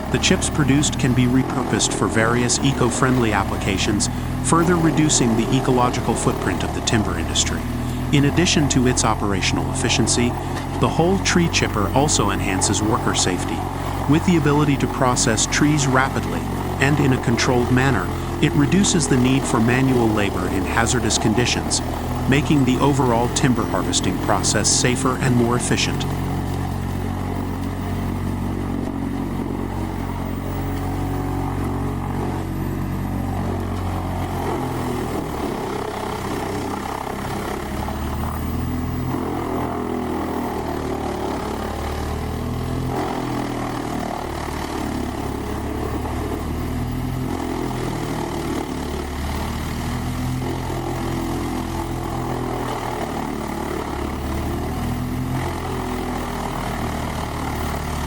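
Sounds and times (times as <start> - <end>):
tree chipper diesel engine: 0.0 - 58.0.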